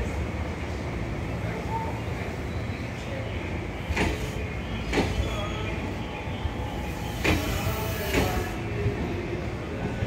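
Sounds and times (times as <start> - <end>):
train coaches rumbling: 0.0 - 10.0.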